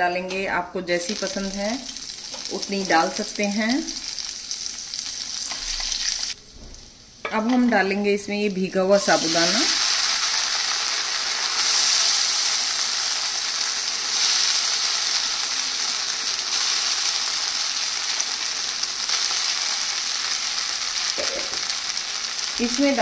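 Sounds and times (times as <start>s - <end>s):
food sizzling in hot fat: 1.0s - 23.0s.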